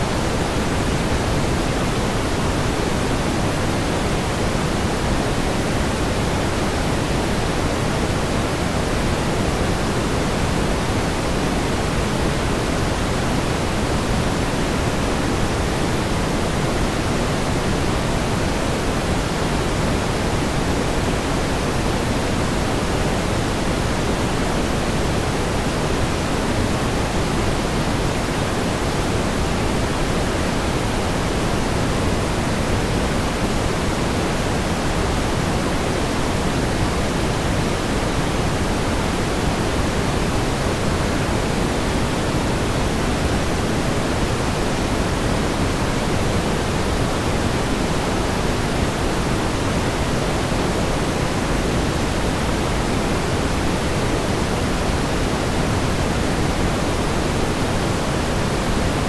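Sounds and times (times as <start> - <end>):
steady pink noise hiss: 0.0 - 59.0.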